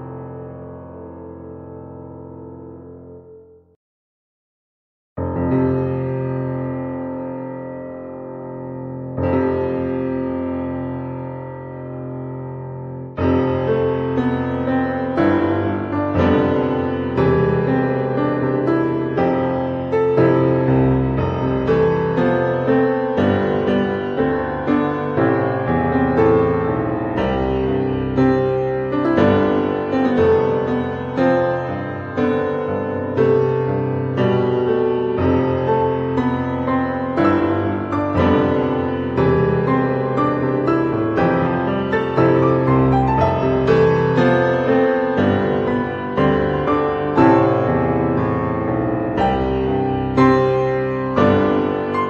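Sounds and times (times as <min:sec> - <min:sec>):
background piano music: 0:00.0 - 0:03.7, 0:05.2 - 0:52.0.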